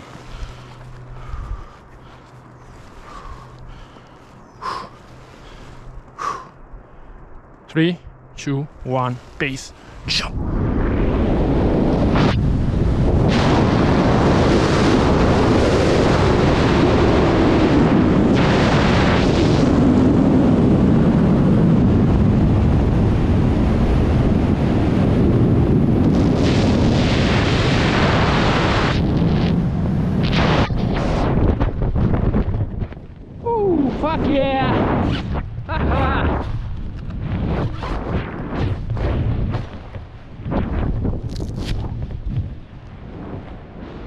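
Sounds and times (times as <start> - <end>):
wind rushing over microphone: 0.0 - 7.0, 7.7 - 44.0.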